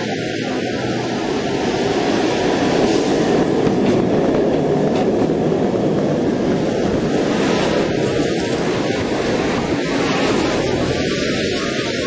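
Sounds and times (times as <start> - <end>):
loud rush of rain: 0.0 - 3.9, 5.7 - 12.0
wind noise on microphone: 0.0 - 12.0.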